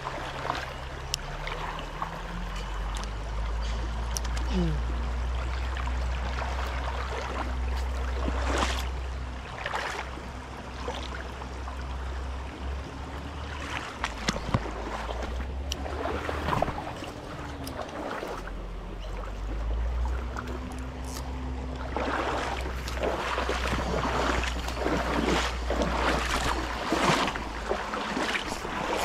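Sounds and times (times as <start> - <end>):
creek water running: 0.0 - 29.0.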